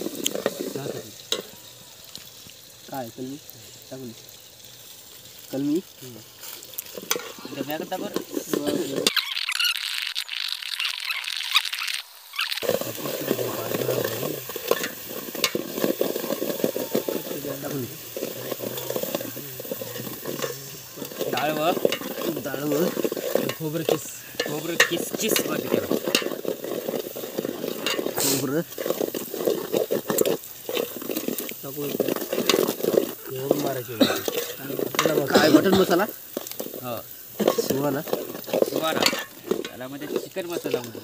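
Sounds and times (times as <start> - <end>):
ladle scraping metal pot: 0.0 - 1.6, 6.8 - 9.9, 12.3 - 41.0
gravy sizzling: 0.0 - 41.0.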